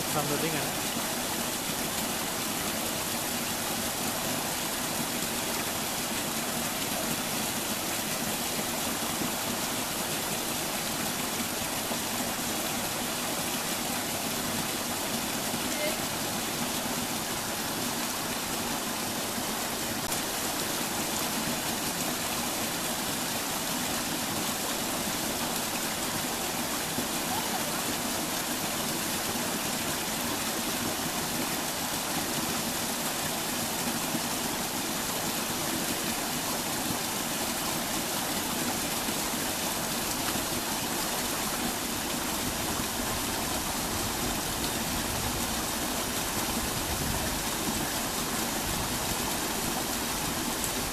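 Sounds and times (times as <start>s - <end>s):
brook water rushing: 0.0s - 50.9s.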